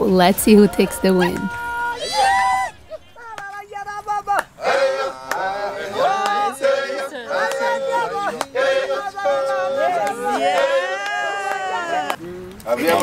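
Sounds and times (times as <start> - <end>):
men singing together: 0.5 - 13.0.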